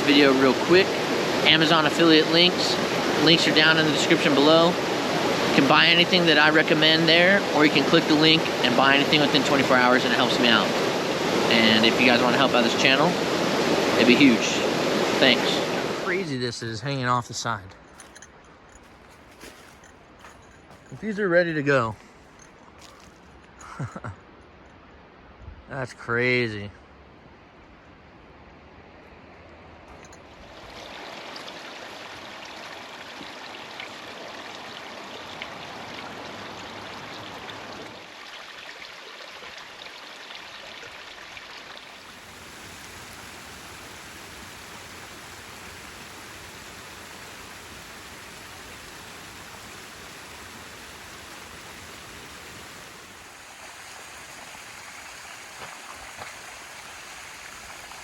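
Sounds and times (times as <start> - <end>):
creek water rushing: 0.0 - 23.9, 29.9 - 58.0.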